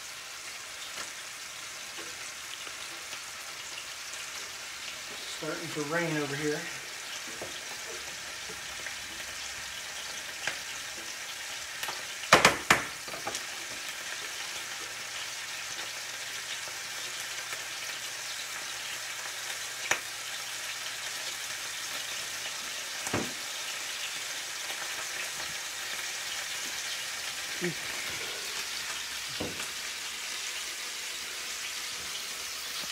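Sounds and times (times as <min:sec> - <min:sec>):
scallops sizzling in a frying pan: 0:00.0 - 0:32.9.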